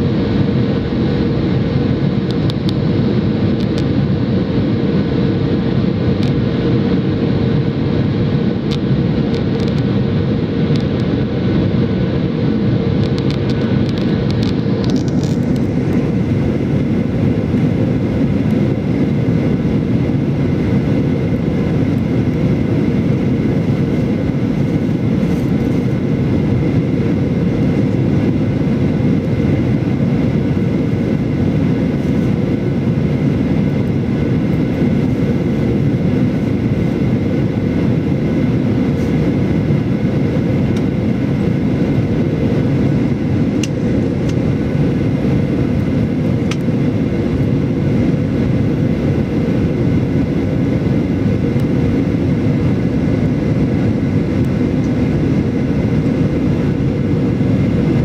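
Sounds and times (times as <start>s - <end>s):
airliner engines droning: 0.0s - 58.0s.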